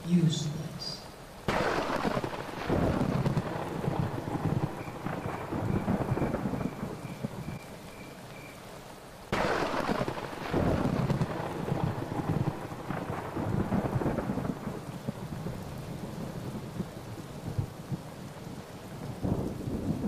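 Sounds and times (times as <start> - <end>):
steady rain: 0.0 - 20.0
thunder rolling: 1.5 - 8.1, 9.3 - 18.1, 19.0 - 20.0.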